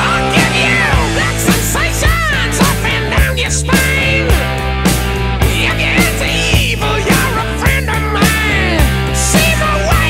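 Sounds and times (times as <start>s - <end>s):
distorted electric guitar: 0.0s - 10.0s
steady drum beat: 0.0s - 10.0s.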